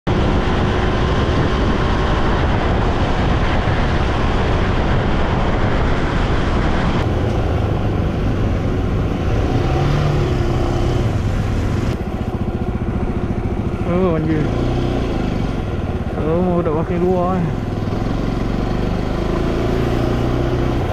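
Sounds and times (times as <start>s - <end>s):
motorcycle engine running: 0.1s - 20.9s
wind rushing on microphone: 0.1s - 20.9s.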